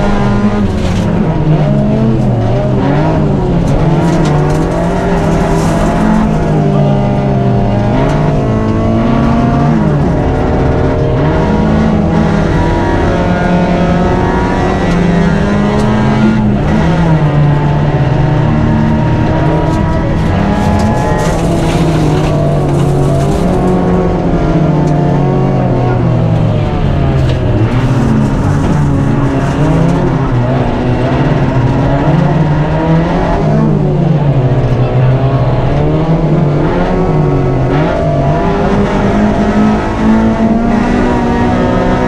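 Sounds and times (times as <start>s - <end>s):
rally car engine revving: 0.0s - 42.0s.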